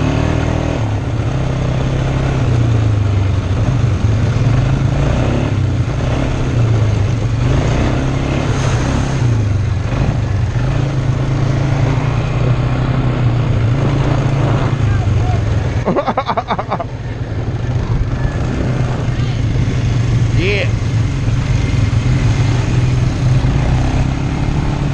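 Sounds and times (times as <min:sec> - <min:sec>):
atv engine running: 0:00.0 - 0:24.9.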